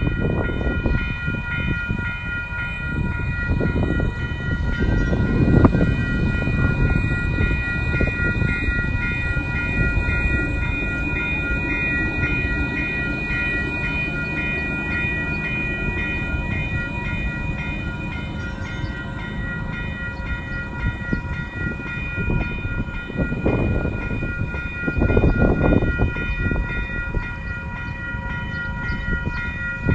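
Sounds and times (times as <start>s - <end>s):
level-crossing warning bell: 0.0s - 29.9s
light rail vehicle rumbling past: 0.0s - 29.9s.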